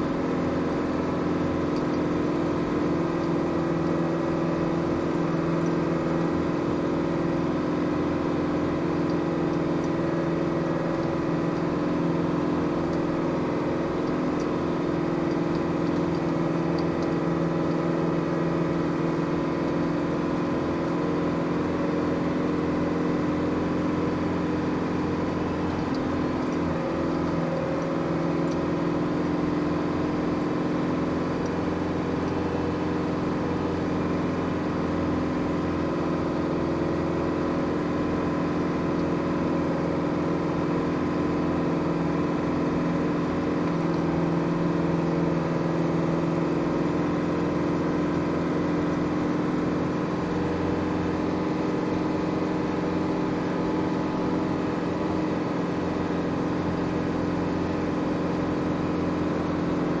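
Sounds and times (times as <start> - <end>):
diesel engine running from inside cab: 0.0 - 60.0.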